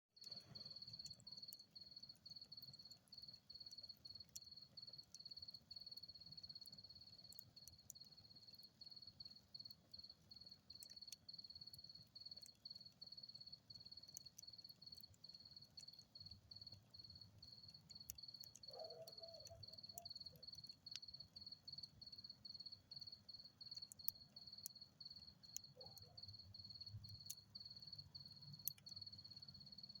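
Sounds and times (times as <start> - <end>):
campfire crackles: 0.2 - 30.0
crickets chirping: 0.2 - 30.0.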